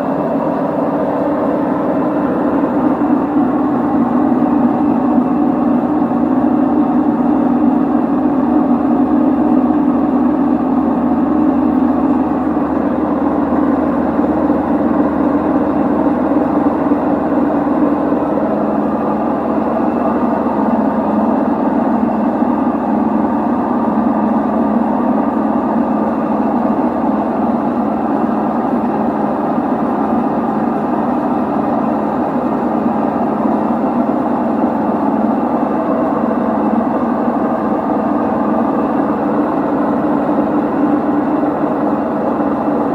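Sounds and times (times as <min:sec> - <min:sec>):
washing machine running: 0:00.0 - 0:42.9.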